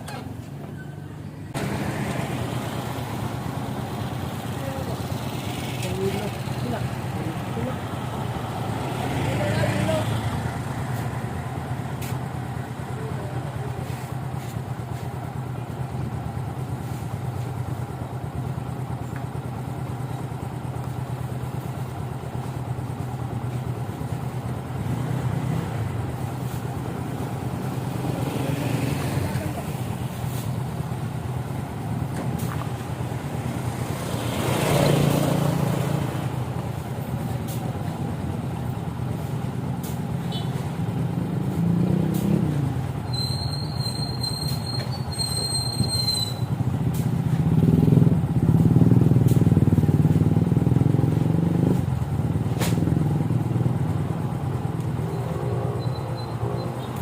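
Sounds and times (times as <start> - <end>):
motorcycle engine running: 1.5 - 44.2, 46.3 - 57.0.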